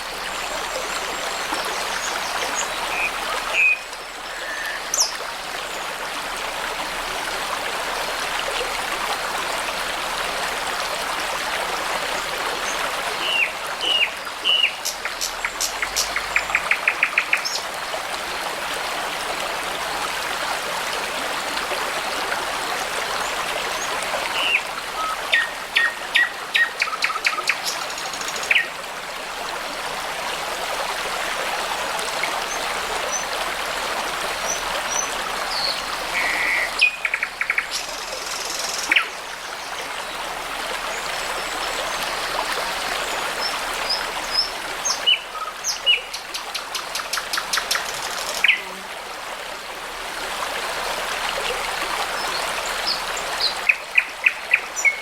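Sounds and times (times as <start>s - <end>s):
babbling brook: 0.0s - 55.0s.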